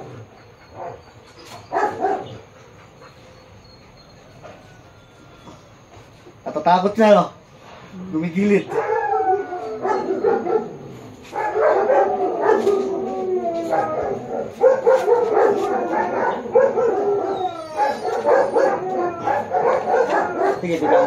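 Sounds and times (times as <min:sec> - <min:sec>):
dog whining and howling: 0:00.0 - 0:06.1, 0:08.0 - 0:21.0.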